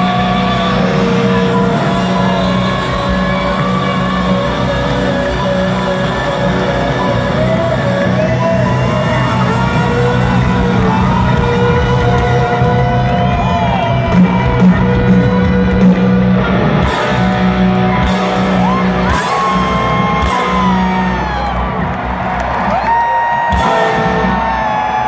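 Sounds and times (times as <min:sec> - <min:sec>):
crowd whooping: 0:00.0 - 0:25.0
electric guitar lead: 0:00.0 - 0:25.0
live rock band playing: 0:00.0 - 0:25.0.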